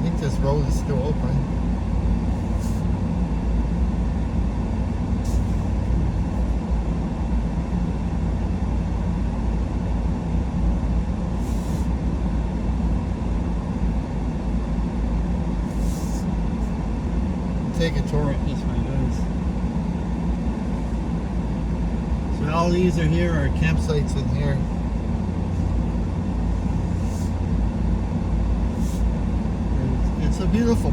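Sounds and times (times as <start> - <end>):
truck engine and tyres rumbling: 0.0 - 30.9.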